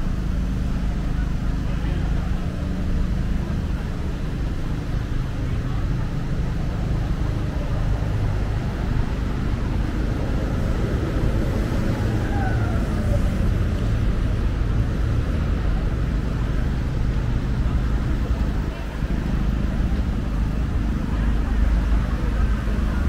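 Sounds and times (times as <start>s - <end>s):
falling vehicle whine: 0.0s - 23.0s
traffic rumble: 0.0s - 23.0s.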